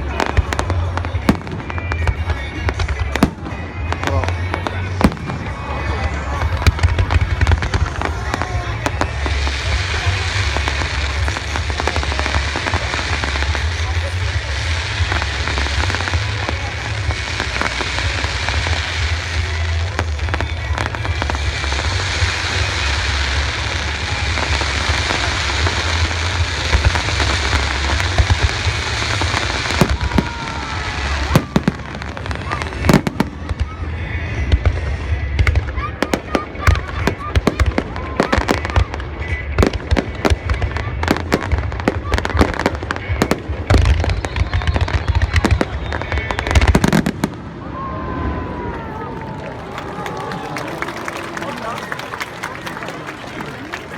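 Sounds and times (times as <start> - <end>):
low rumble of firework bursts: 0.0 - 50.0
fireworks crackling: 0.0 - 53.9.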